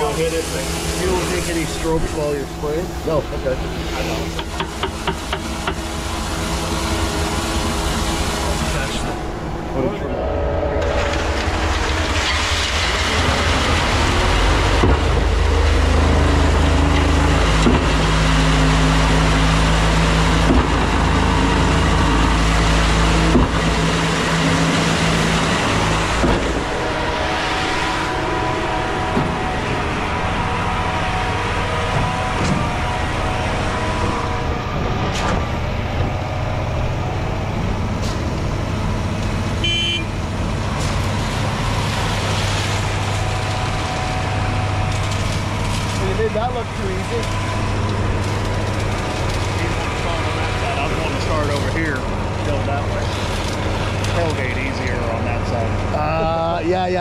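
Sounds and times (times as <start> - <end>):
diesel engine running hard: 0.0 - 57.0.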